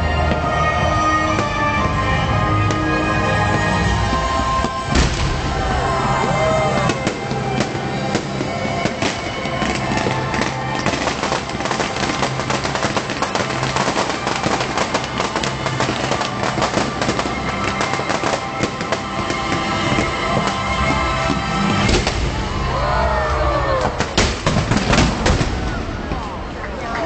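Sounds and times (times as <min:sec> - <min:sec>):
show music: 0:00.0 - 0:23.8
fireworks crackling and popping: 0:00.0 - 0:27.0.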